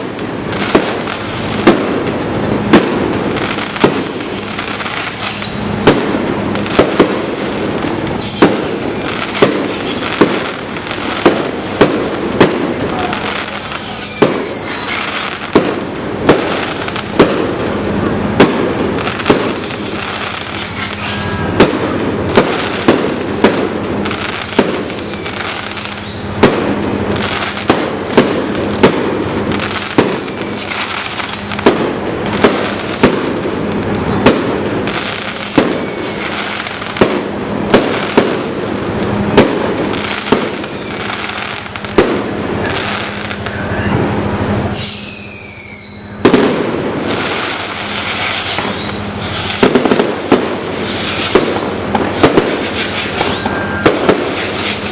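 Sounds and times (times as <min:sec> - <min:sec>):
falling firework whistle: 0:00.0 - 0:02.0, 0:02.7 - 0:17.6, 0:19.0 - 0:54.9
firework bangs: 0:00.0 - 0:54.9
firework crackling: 0:00.0 - 0:54.9.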